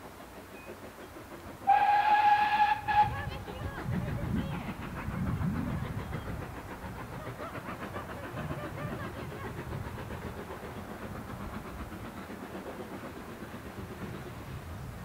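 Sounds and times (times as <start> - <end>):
steam hissing: 0.0 - 15.0
steam locomotive exhaust beats: 0.0 - 15.0.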